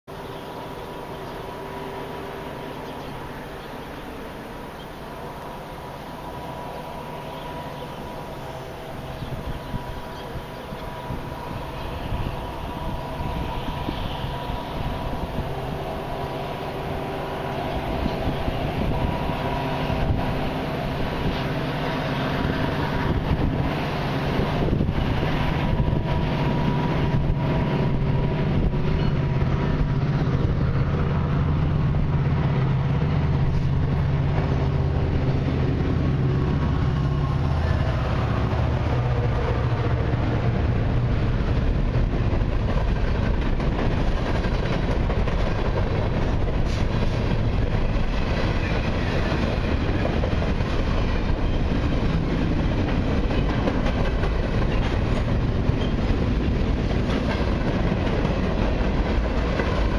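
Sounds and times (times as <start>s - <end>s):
diesel locomotive engines: 0.0s - 59.9s
freight cars rumbling over rails: 0.1s - 59.9s.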